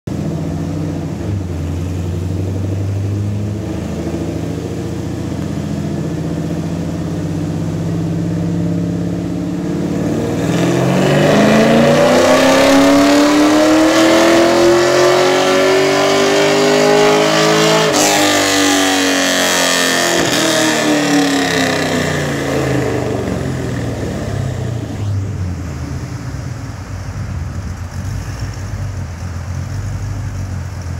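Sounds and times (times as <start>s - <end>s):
car engine revving on dyno: 0.1s - 27.2s.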